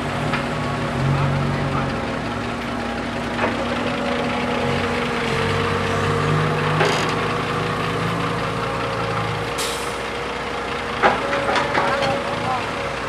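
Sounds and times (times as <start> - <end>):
diesel machinery engine running: 0.0 - 13.0.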